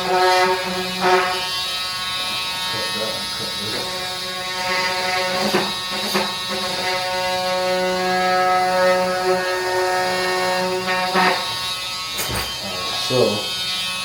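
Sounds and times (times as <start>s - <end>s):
small motor buzzing: 0.0s - 14.0s.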